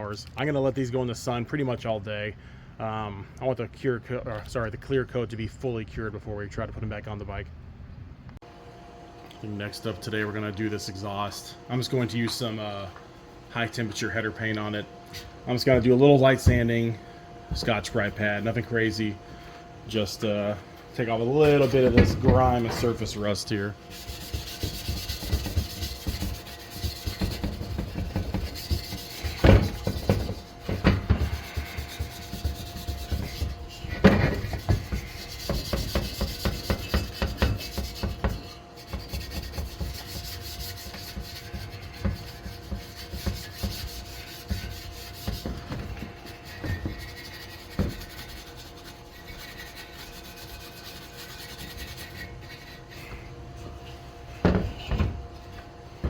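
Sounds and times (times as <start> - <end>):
pad scraping metal exhaust: 9.6 - 56.0.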